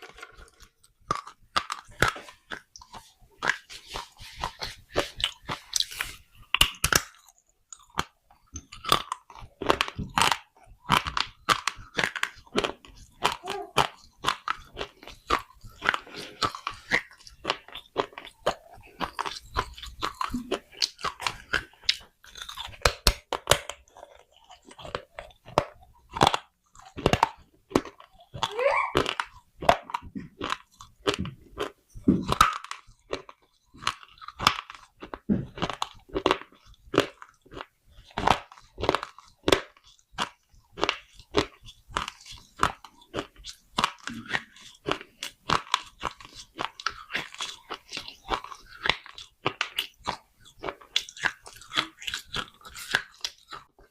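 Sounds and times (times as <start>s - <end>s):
crunching of clay being chewed: 0.0s - 53.9s.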